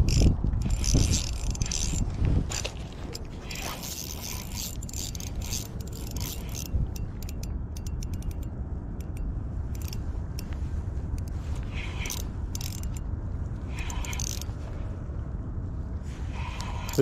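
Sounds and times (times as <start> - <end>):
fishing reel gears whirring: 0.0 - 13.1, 13.7 - 14.6, 16.3 - 17.0
reel sharp clicks: 0.0 - 13.1, 13.7 - 14.5, 16.4 - 17.0.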